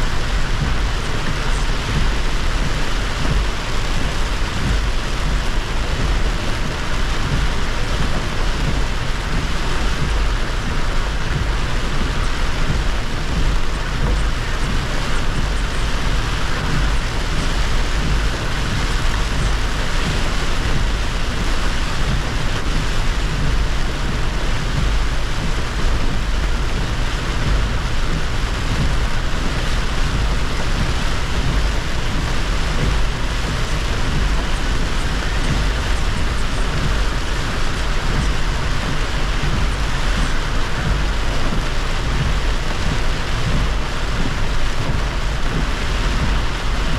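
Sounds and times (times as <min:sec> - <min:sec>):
heavy rain: 0:00.0 - 0:46.9
tyres on wet road: 0:00.0 - 0:46.9.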